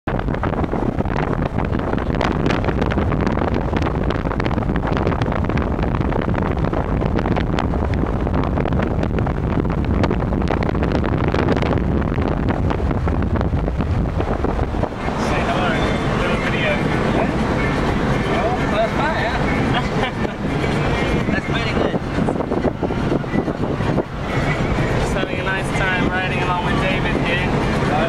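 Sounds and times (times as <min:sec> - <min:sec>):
road noise rumble: 0:00.0 - 0:28.0
wind buffeting microphone: 0:00.1 - 0:28.0.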